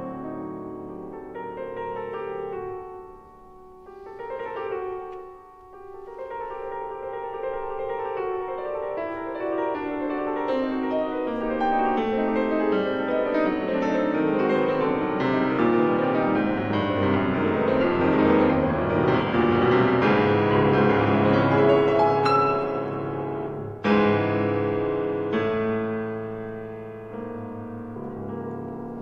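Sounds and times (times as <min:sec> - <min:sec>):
solo classical piano: 0:00.0 - 0:29.0.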